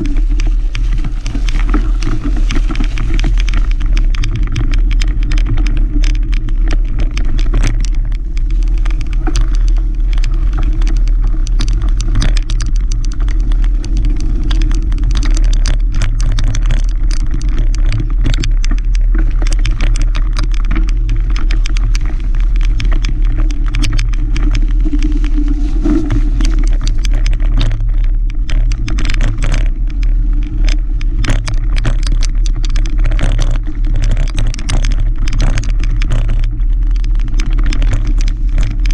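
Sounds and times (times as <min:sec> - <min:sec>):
bike rattles and knocks: 0:00.0 - 0:38.9
wind rumble on microphone: 0:00.0 - 0:38.9.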